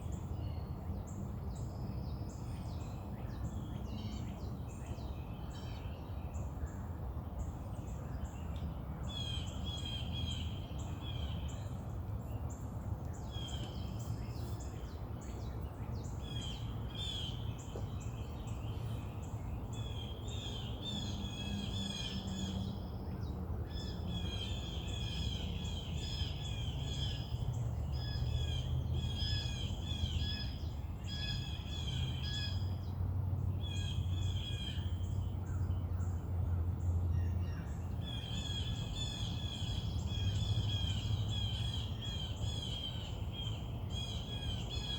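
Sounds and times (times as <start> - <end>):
songbirds singing and chirping: 0.0 - 44.9.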